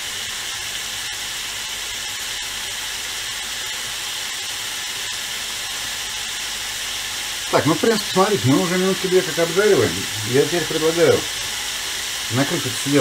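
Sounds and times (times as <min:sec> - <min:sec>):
vegetables frying in a pan: 0:00.0 - 0:13.0.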